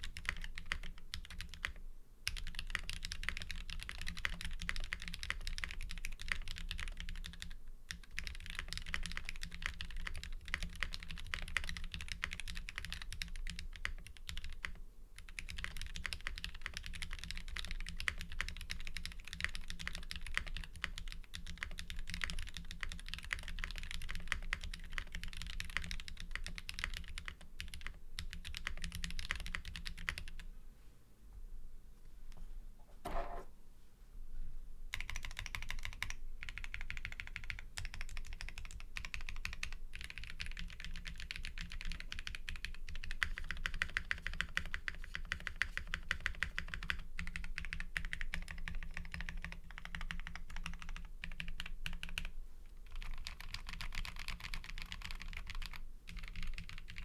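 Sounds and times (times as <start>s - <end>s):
mechanical keyboard typing: 0.0s - 30.4s, 34.9s - 52.3s, 52.9s - 57.0s.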